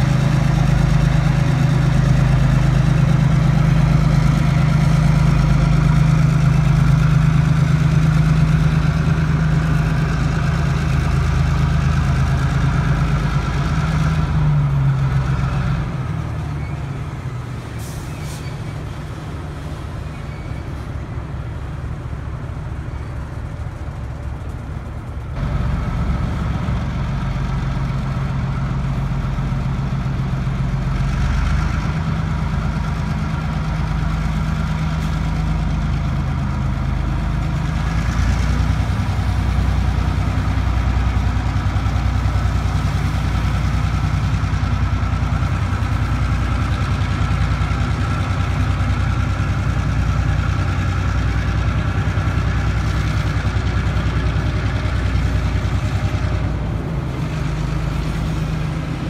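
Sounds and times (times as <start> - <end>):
diesel locomotives idling: 0.0 - 59.0.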